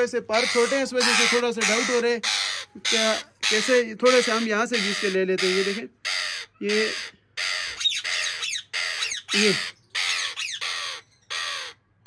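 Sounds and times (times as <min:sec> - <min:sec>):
parrot screeching: 0:00.3 - 0:11.8.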